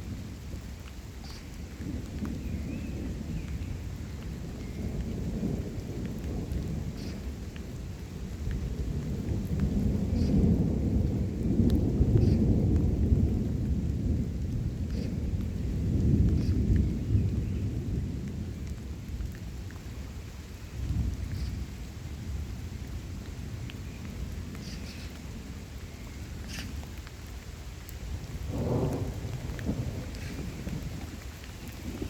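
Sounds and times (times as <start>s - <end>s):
steady rain: 0.0s - 32.0s
raindrop ticks: 0.5s - 2.5s, 3.3s - 17.4s, 18.0s - 21.6s, 22.8s - 32.0s
thunder rumbling: 1.8s - 27.4s, 28.0s - 32.0s.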